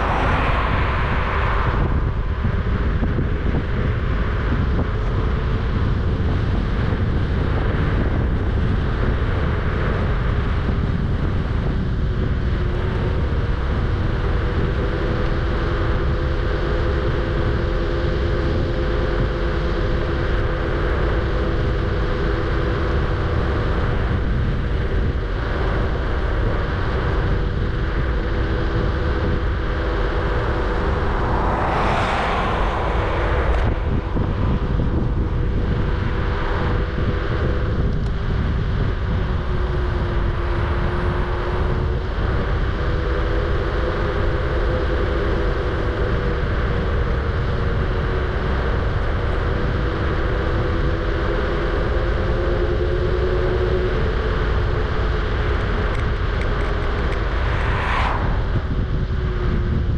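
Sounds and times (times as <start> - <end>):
electric scooter motor whine: 0.0 - 59.9
wind and road rumble: 0.0 - 59.9.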